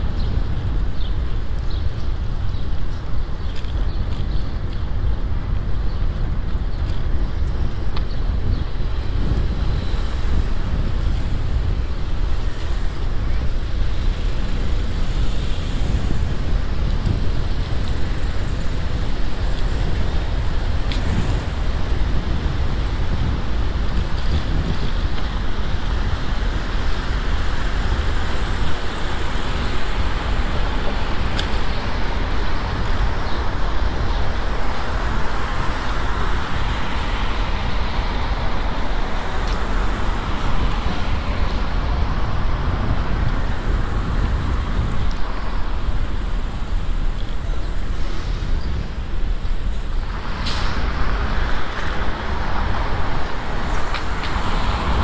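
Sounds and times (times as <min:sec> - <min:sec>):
road noise rumble: 0:00.0 - 0:55.0
cars passing: 0:08.7 - 0:55.0.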